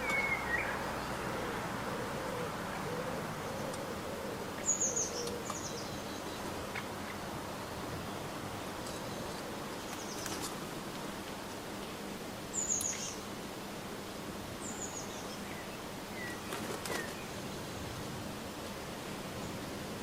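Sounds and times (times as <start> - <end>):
songbirds chirping: 0.0 - 19.9
steady background hiss: 0.0 - 20.0.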